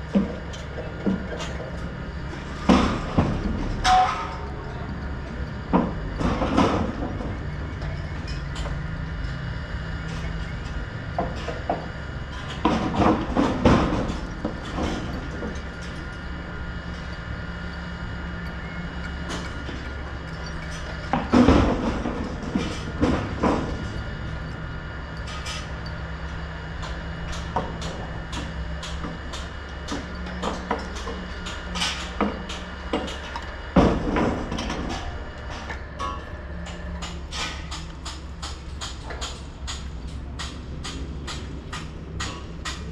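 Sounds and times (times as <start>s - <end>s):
steady machine hum: 0.0s - 42.9s
metal clanks and knocks: 0.1s - 9.4s, 10.0s - 42.9s.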